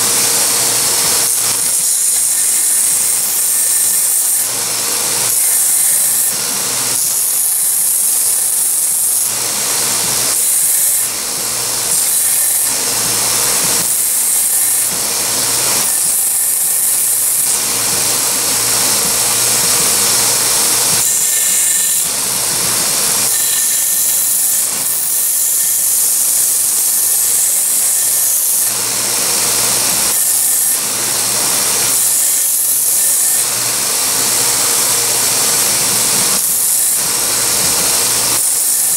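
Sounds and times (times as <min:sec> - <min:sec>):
belt grinder grinding: 0:00.0 - 0:38.9.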